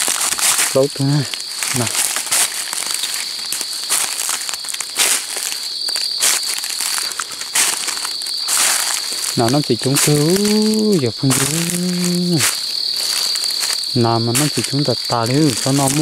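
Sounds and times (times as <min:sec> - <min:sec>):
footsteps crunching dry leaves: 0:00.0 - 0:16.0
insects droning: 0:00.0 - 0:16.0.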